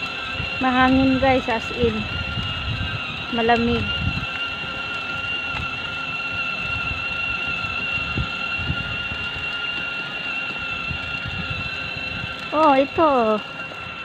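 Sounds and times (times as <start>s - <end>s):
high-pitched whine: 0.0s - 14.0s
wind buffeting microphone: 0.0s - 14.0s.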